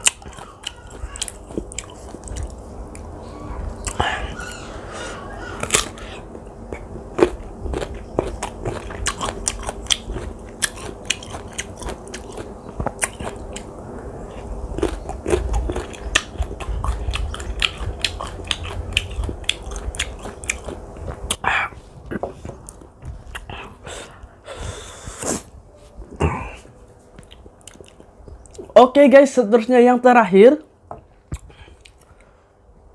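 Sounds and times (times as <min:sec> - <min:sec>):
crunching and chewing fruit: 0:00.0 - 0:25.5, 0:26.1 - 0:28.8, 0:31.0 - 0:32.4.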